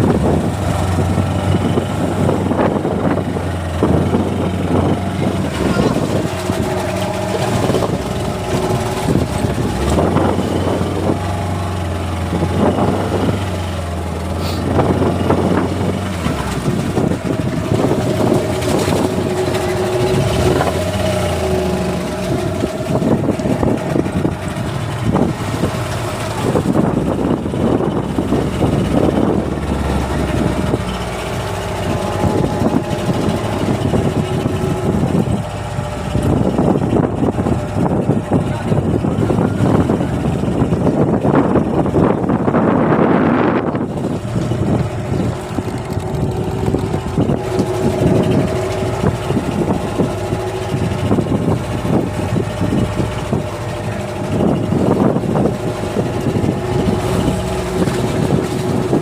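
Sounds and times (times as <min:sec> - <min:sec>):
boat engine running: 0:00.0 - 0:59.0
rough rushing noise: 0:00.0 - 0:59.0.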